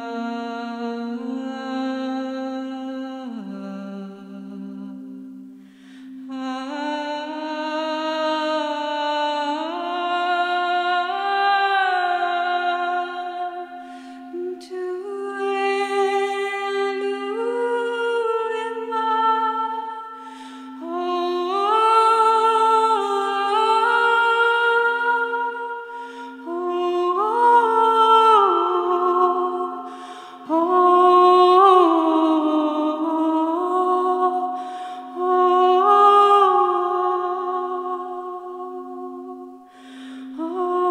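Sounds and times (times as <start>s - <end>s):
woman singing long held notes: 6.1s - 40.9s.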